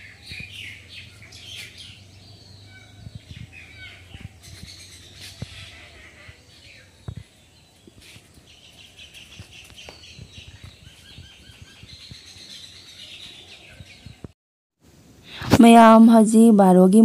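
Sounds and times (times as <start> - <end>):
small birds chirping: 0.0 - 14.4.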